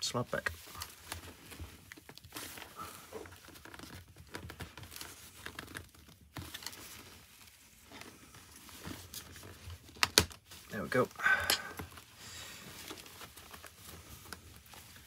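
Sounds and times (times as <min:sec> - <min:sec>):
plastic and fabric rustling: 0:00.0 - 0:15.0.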